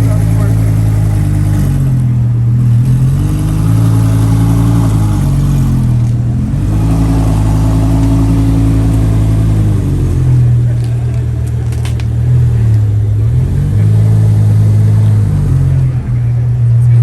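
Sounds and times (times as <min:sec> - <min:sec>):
truck engine driving by: 0:00.0 - 0:17.0.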